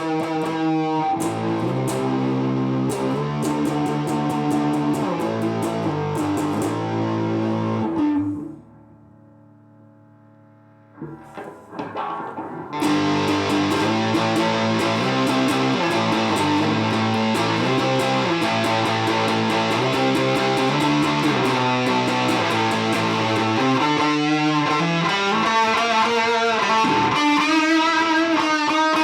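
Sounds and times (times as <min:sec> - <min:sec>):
distorted electric guitar riff: 0:00.0 - 0:29.0
quiet picked guitar notes: 0:00.0 - 0:29.0.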